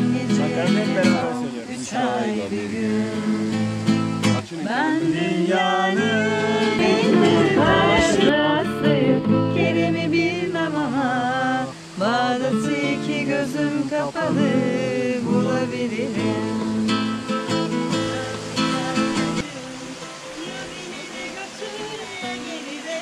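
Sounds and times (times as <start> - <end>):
acoustic guitar strumming: 0.0 - 23.0
woman singing: 0.0 - 23.0.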